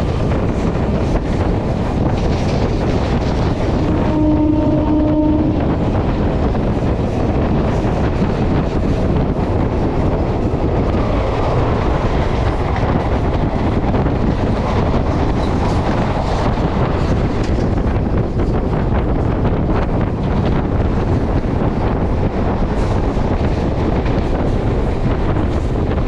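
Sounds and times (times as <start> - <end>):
train passing alongside: 0.0 - 26.0
train track rumble: 0.0 - 26.0
wind rush: 0.0 - 26.0.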